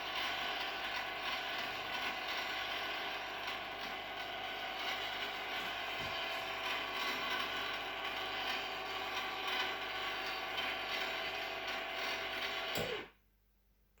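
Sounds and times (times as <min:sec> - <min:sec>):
motor and gears running: 0:00.0 - 0:13.1.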